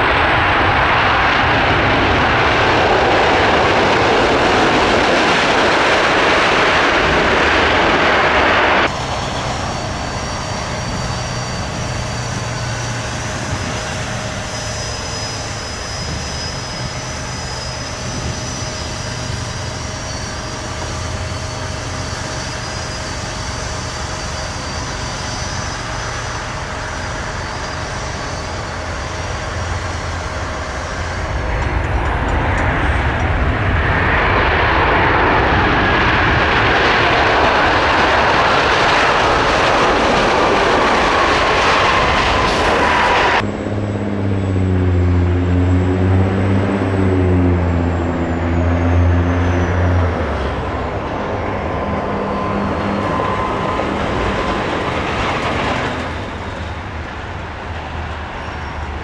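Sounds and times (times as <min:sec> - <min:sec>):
jet engine high whine: 0:00.0 - 0:59.0
jet engines roaring: 0:00.0 - 0:59.0.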